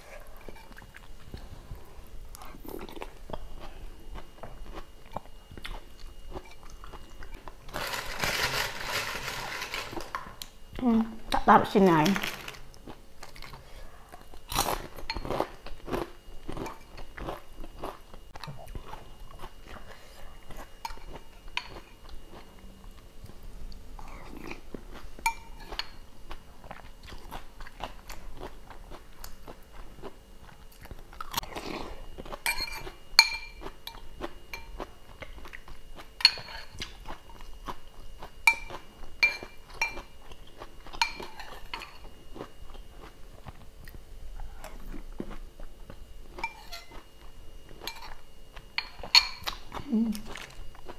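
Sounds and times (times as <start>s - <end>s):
crunching and chewing crackers: 0.2s - 10.5s, 12.1s - 23.4s, 24.0s - 50.9s.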